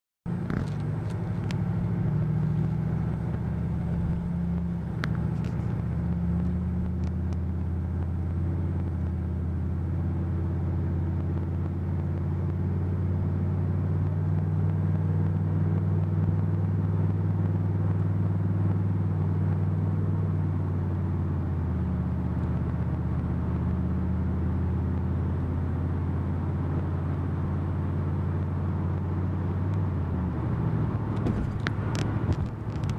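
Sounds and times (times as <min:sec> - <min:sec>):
car engine droning: 0:00.3 - 0:32.9.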